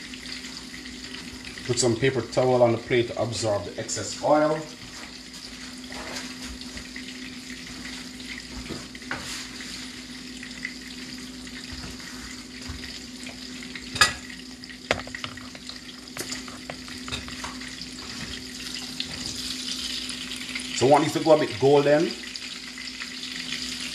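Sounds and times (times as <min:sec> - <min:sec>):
fish sizzling in oil: 0:04.3 - 0:23.9.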